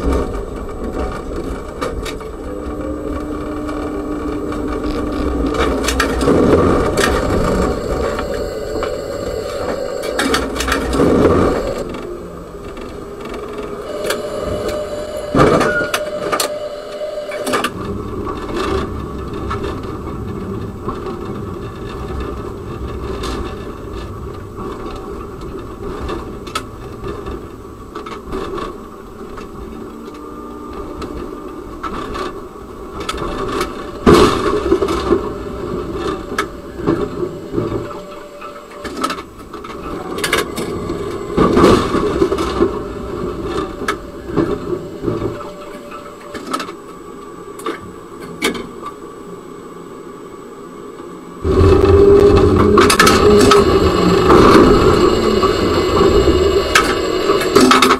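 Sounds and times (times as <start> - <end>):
tram rumbling on rails: 0.0 - 57.9.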